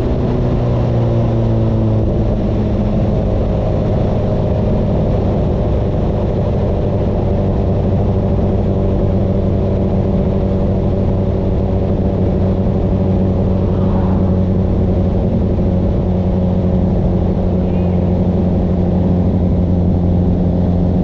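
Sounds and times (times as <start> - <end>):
motorcycle engine running loud: 0.0 - 21.0.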